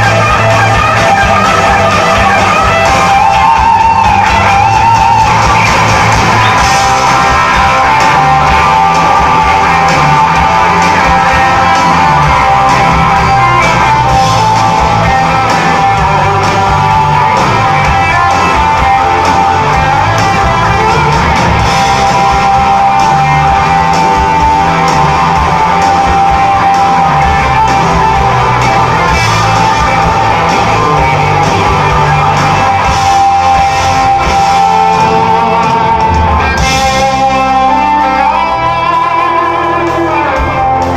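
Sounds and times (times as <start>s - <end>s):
electric guitars sustained notes: 0.0s - 40.9s
rock band playing live: 0.0s - 40.9s.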